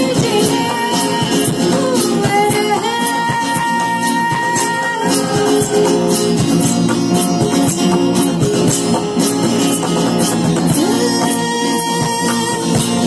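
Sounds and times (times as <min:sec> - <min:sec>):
acoustic guitar strumming: 0:00.0 - 0:13.0
box drum beat: 0:00.0 - 0:13.0.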